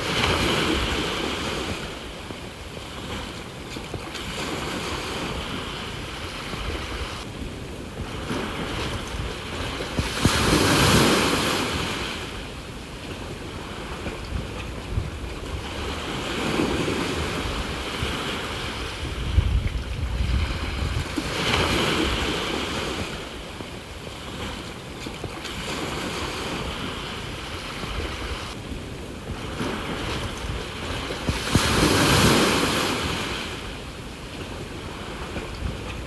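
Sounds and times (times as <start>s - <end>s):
ocean waves washing on shore: 0.0s - 36.0s
wind rumbling on microphone: 0.0s - 36.0s.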